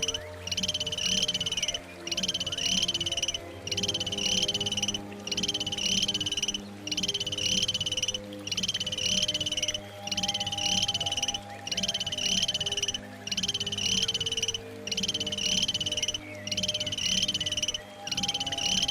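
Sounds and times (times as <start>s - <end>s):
animal rapid pulsed trill: 0.0s - 18.9s.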